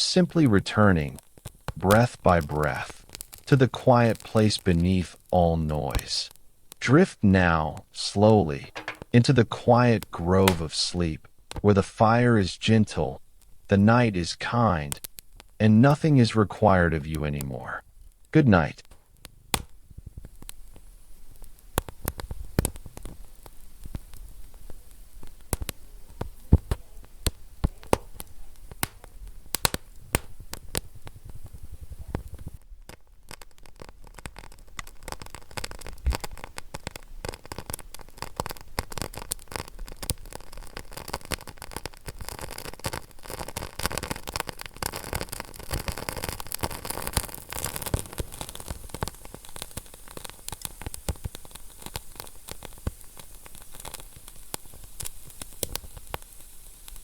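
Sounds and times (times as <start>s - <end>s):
fire pops: 0.0s - 57.0s
soft hiss: 0.0s - 57.0s
wood fire crackling: 0.0s - 57.0s.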